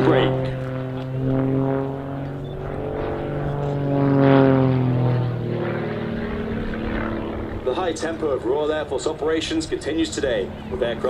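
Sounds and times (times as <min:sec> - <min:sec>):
propeller plane passing overhead: 0:00.0 - 0:11.0.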